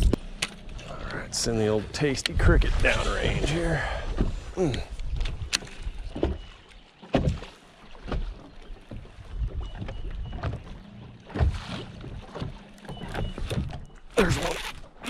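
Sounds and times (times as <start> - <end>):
waves slapping boat hull: 0.0 - 15.0
wind: 0.0 - 15.0.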